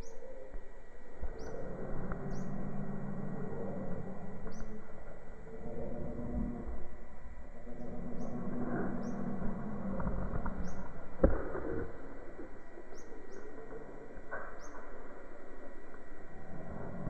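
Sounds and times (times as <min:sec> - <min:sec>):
bird chirps: 0:00.0 - 0:06.5, 0:07.6 - 0:11.0, 0:11.6 - 0:16.6
steady low background noise: 0:00.0 - 0:17.0.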